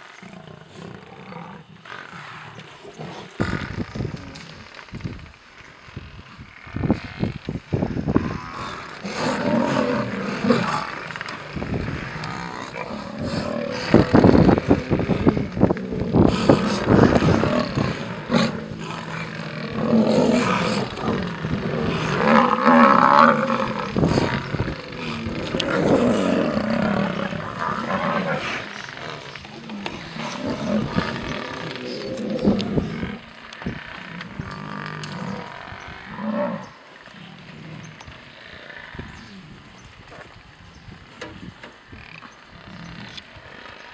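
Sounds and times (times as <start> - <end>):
lionesses growling and snarling: 0.0 - 43.9.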